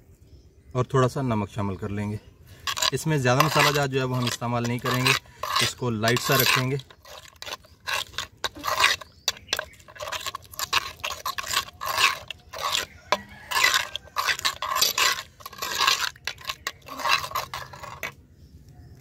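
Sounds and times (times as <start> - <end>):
metal spoon scraping clay bowl: 2.0 - 18.2.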